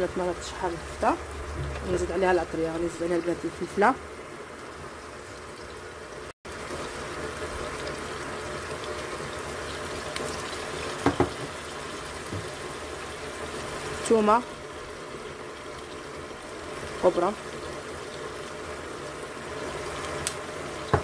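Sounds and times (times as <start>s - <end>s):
sauce sizzling in a frying pan: 0.0s - 21.0s.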